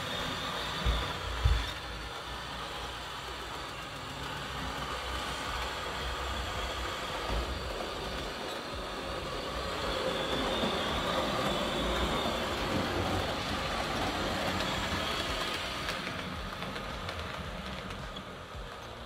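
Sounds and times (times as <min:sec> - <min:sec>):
model train motor whining: 0:00.0 - 0:19.0
wheels clicking on rails: 0:00.0 - 0:19.0.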